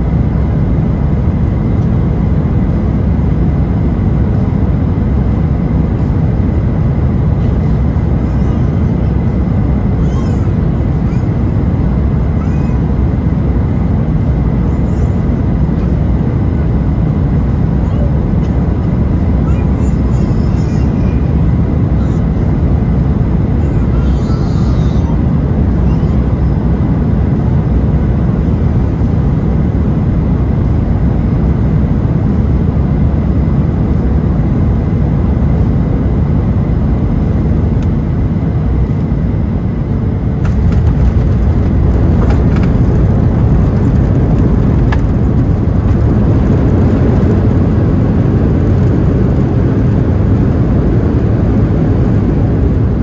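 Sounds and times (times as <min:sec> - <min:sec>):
airliner engine rumble in cabin: 0:00.0 - 0:53.0.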